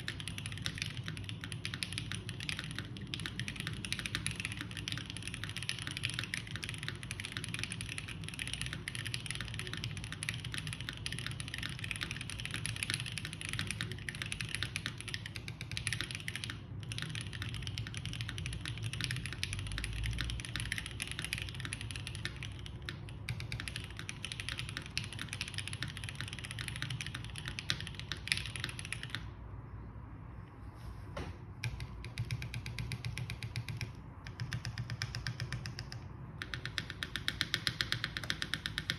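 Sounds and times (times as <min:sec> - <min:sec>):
mechanical keyboard typing: 0:00.0 - 0:29.5, 0:31.4 - 0:38.9.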